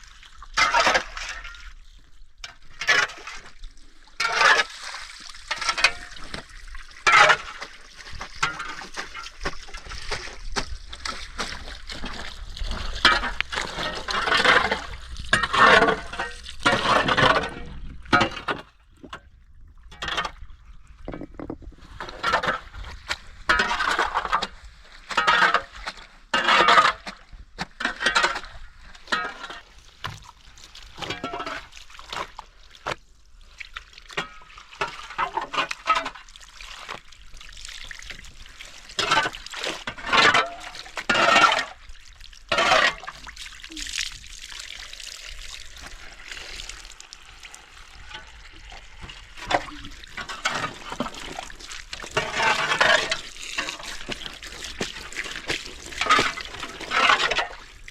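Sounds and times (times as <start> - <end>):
water splashing and sloshing: 0.0 - 57.9.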